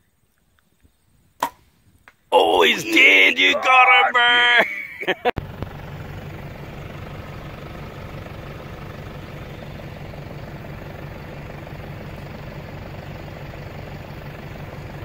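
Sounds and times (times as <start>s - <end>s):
vehicle engine running: 2.4s - 15.0s.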